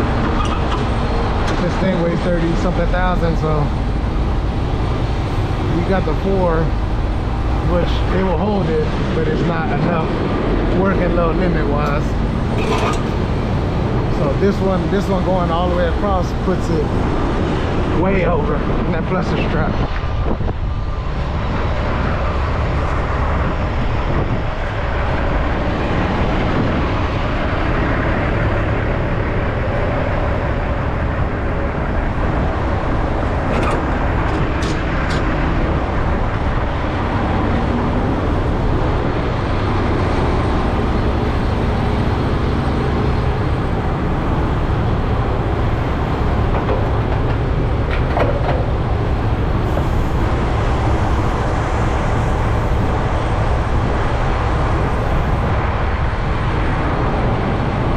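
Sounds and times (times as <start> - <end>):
truck engine and road noise: 0.0 - 57.9.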